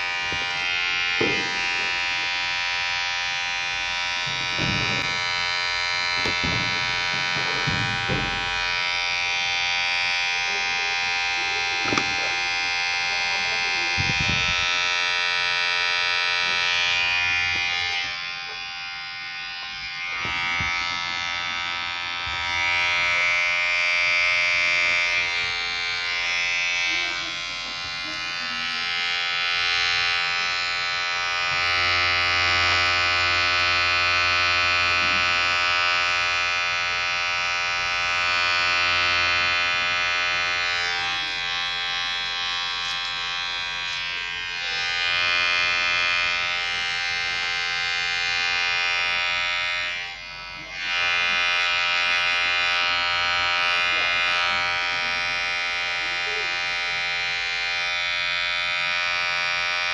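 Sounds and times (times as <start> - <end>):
electric hair clipper buzzing: 0.0 - 59.9.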